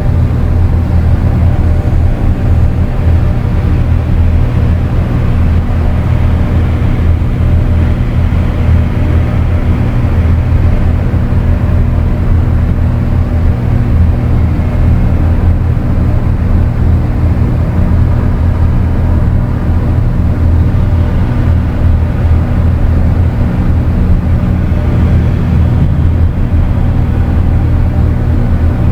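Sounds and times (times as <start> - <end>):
dense noisy wash: 0.0 - 28.9
low rumbling electronic drone: 0.0 - 28.9.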